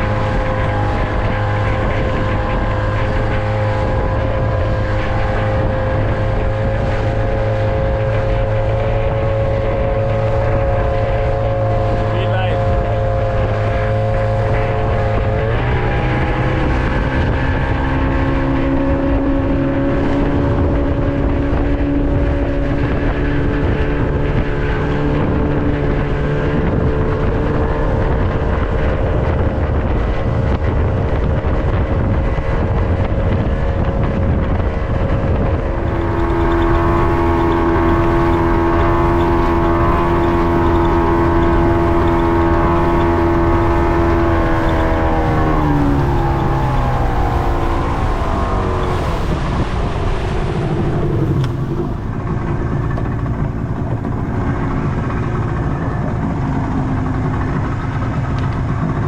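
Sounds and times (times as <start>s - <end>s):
motorboat engine: 0.0s - 59.0s.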